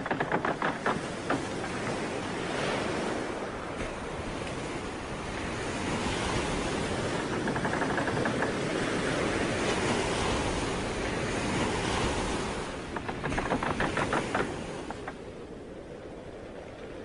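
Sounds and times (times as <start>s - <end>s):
surf waves washing: 0.0s - 17.0s.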